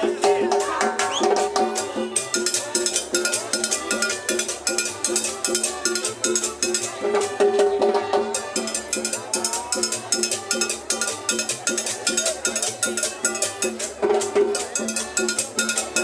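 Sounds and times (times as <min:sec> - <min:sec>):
accordion: 0:00.0 - 0:16.0
drums and hand percussion: 0:00.0 - 0:16.0.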